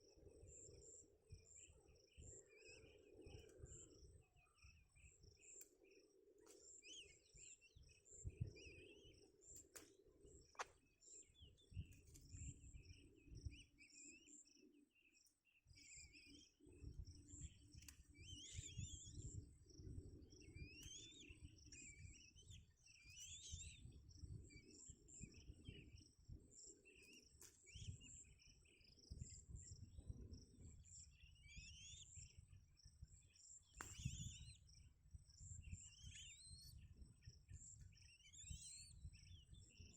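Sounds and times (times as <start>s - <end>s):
faint bird chirps: 0.0s - 39.9s.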